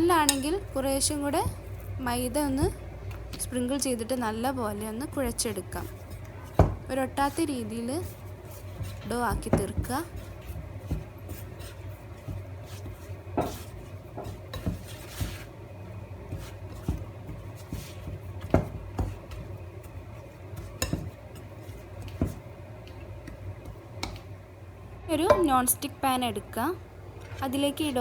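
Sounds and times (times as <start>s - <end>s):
hands kneading dough: 0.0s - 25.8s
low steady hum: 0.0s - 28.0s.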